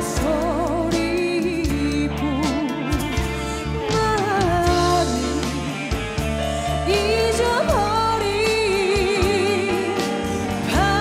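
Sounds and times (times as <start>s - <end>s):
backing music: 0.0s - 11.0s
woman singing into microphone: 0.0s - 11.0s.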